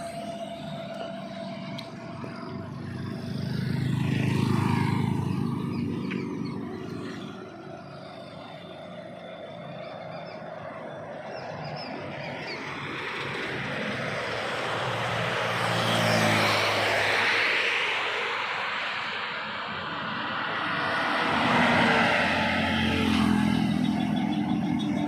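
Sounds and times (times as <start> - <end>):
truck passing on highway: 0.0 - 25.0
vehicle approaching: 0.0 - 25.0.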